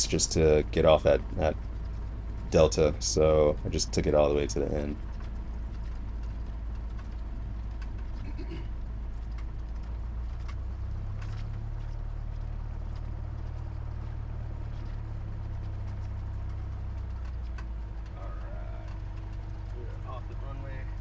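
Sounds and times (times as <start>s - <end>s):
light aircraft engine droning: 0.0s - 21.0s.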